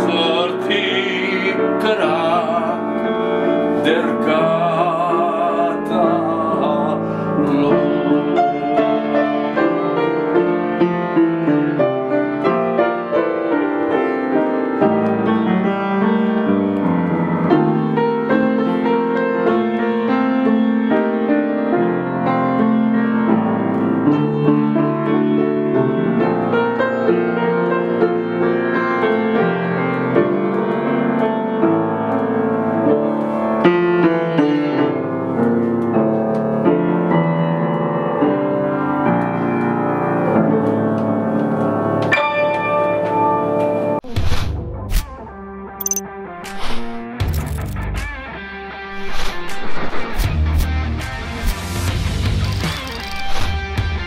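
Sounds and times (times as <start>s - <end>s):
solo piano playing: 0.0s - 44.0s.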